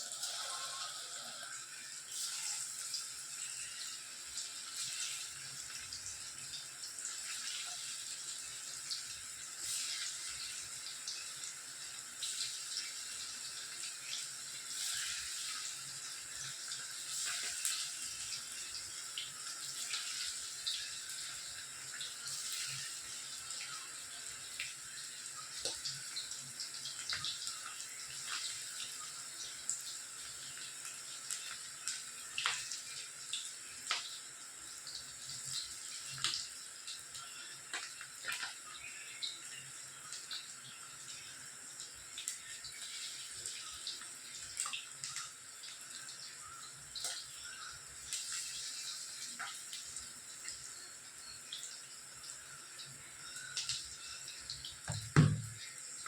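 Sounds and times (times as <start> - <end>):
oil crackling and popping: 0.0 - 39.4, 41.9 - 51.6, 52.8 - 56.0
chicken deep-frying in oil: 0.0 - 56.0.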